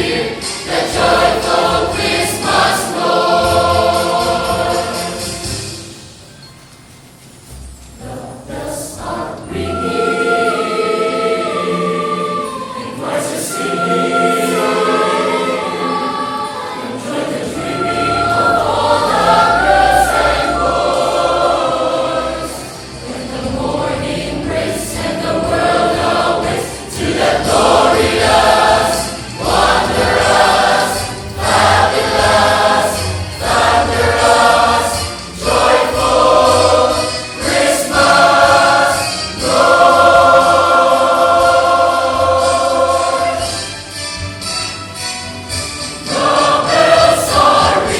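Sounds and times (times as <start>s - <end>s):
choir singing: 0.0s - 6.1s, 7.9s - 43.9s, 45.8s - 47.9s.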